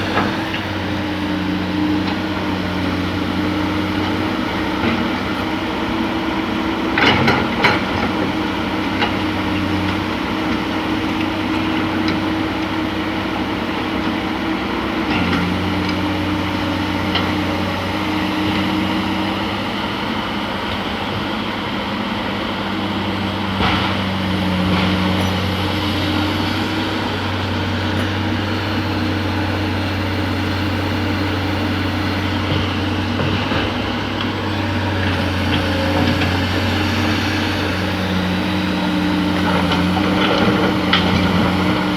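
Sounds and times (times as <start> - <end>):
excavator diesel engine: 0.0 - 41.9.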